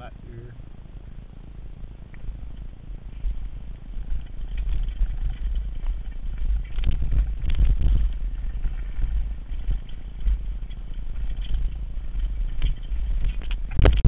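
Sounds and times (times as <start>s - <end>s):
bike rattling and clicking: 0.0s - 14.0s
wind rumbling over microphone: 0.0s - 14.0s.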